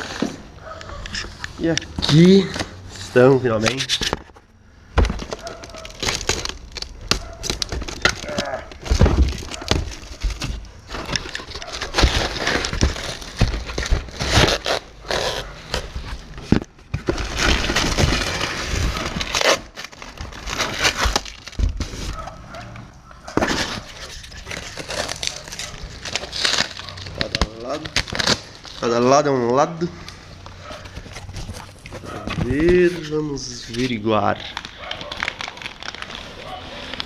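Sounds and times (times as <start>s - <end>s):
packaging rustling and crinkling: 0.0s - 37.0s
cracks knocks and scrapes: 3.5s - 28.8s, 30.0s - 37.0s.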